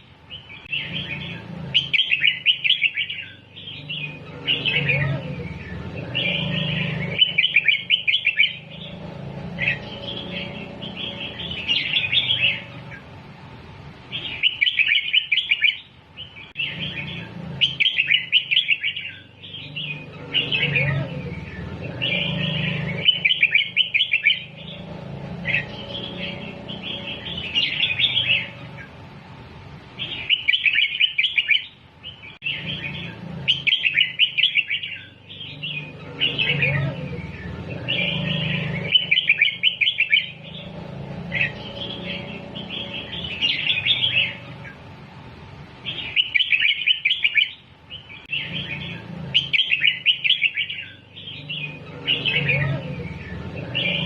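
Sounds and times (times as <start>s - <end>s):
bulbul singing: 0.0s - 54.0s.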